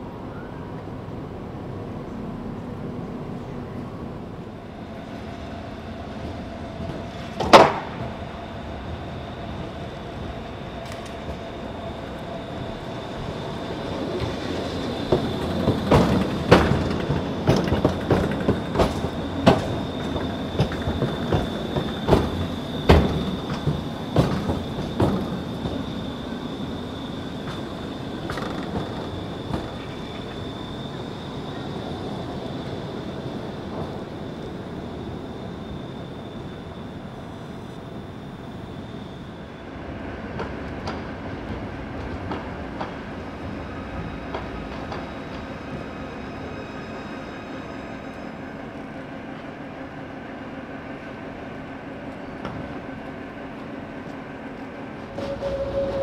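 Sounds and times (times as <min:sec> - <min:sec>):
tram wheels clattering over rails: 0:01.8 - 0:56.0.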